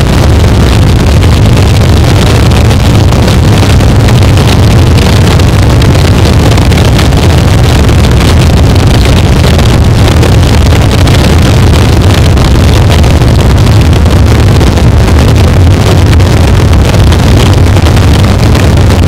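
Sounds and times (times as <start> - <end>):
harsh distorted static noise: 0.0 - 19.0.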